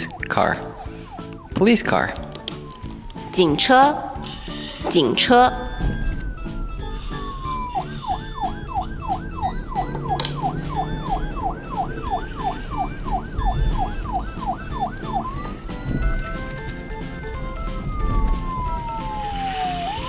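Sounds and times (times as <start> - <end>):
police siren wailing and yelping: 0.0 - 20.0.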